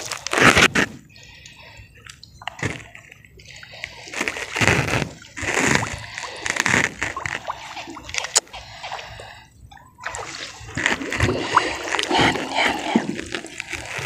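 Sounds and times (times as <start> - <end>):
water splashing from wading: 0.0 - 14.0.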